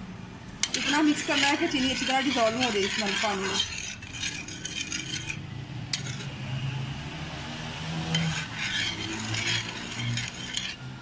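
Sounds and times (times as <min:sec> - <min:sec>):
metal spoon scraping saucepan: 0:00.6 - 0:06.5, 0:08.0 - 0:11.0.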